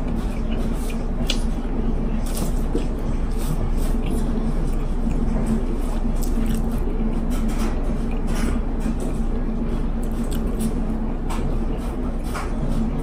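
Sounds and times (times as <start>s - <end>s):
person chewing food: 0.0s - 9.2s, 9.8s - 12.5s
steady low hum: 0.0s - 13.0s.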